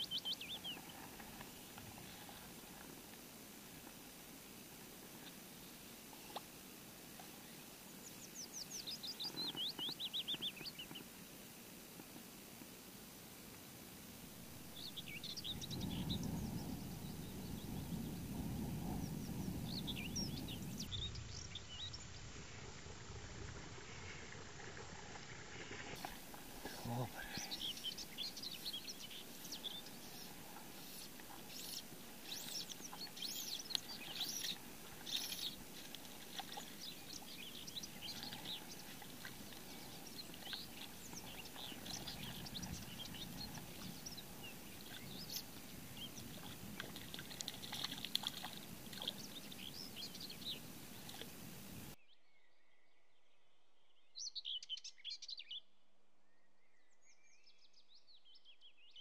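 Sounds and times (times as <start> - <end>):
small birds chirping: 0.0 - 3.2, 4.8 - 11.2, 14.2 - 59.0
steady background hiss: 0.0 - 47.6, 48.6 - 52.0.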